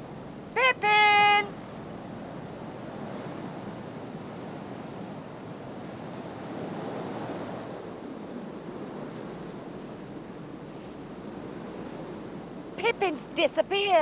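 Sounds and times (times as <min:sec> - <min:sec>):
wind blowing: 0:00.0 - 0:14.0.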